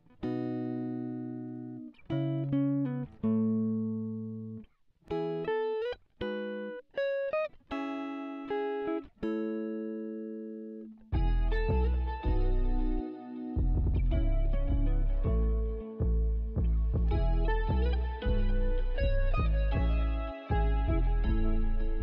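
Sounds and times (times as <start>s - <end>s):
plucked guitar-like music: 0.0s - 22.0s.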